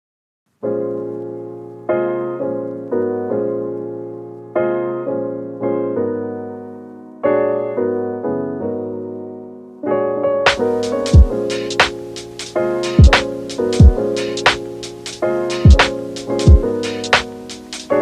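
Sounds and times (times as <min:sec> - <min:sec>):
slow piano chords: 0:00.5 - 0:18.0.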